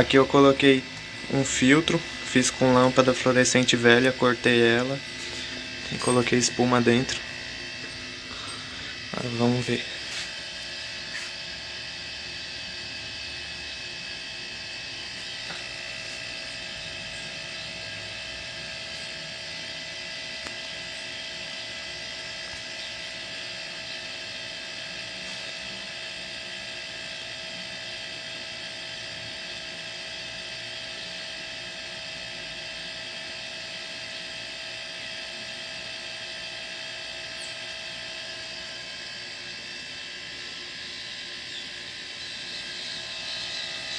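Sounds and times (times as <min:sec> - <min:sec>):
air compressor humming and whining: 0:00.0 - 0:43.9.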